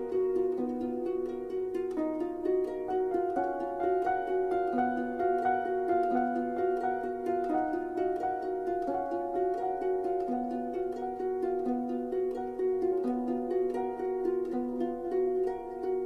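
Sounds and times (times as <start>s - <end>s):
plucked-string music: 0.0s - 16.0s.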